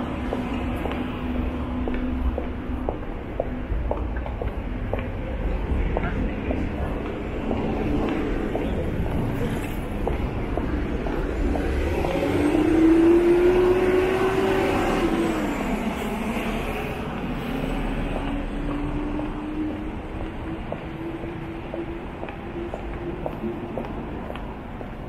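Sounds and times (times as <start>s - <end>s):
engine hum: 0.0s - 25.0s
street traffic rumbling: 0.0s - 25.0s.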